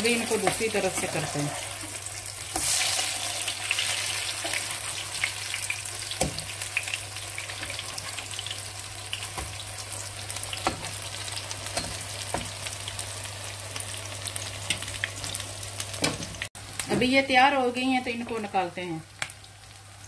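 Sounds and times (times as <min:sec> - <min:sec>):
patties sizzling in oil: 0:00.0 - 0:20.0.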